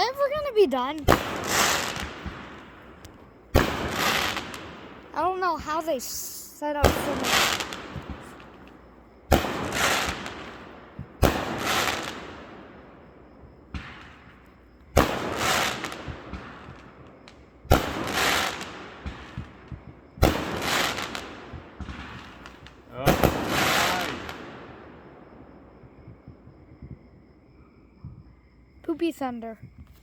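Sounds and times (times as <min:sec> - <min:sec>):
fireworks bursting with crackle: 0:00.0 - 0:25.4.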